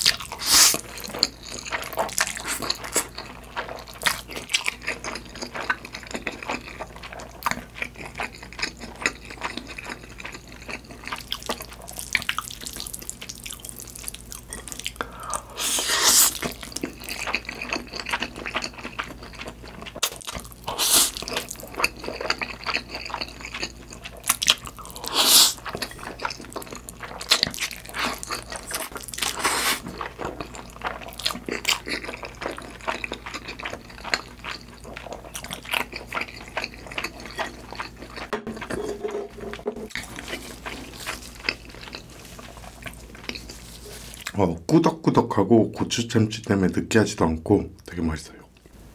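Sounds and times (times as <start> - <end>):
noodles being slurped and chewed: 0.0 - 44.4.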